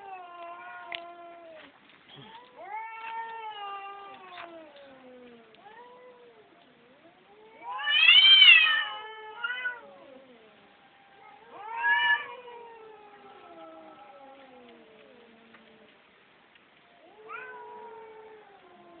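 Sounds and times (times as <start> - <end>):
cat meowing: 0.0 - 6.4, 7.4 - 10.4, 11.0 - 15.6, 17.0 - 19.0.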